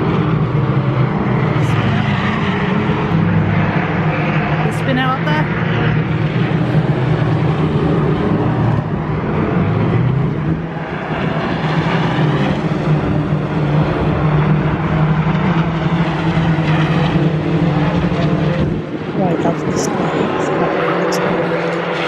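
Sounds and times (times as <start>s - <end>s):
racing car engines droning: 0.0s - 22.0s.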